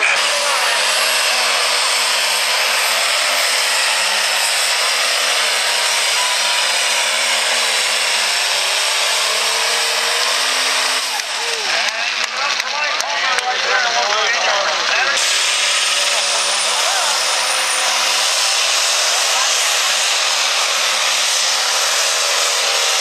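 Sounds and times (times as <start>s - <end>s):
diesel tractor engine at full power: 0.0s - 23.0s.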